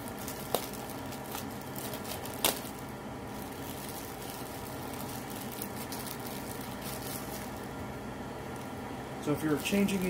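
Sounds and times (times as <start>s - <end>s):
plastic packaging crinkling: 0.0s - 7.8s, 9.4s - 10.0s.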